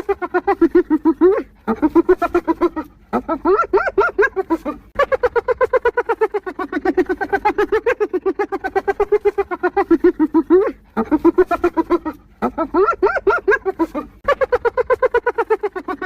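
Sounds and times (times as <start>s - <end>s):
hyena giggling: 0.0s - 16.0s.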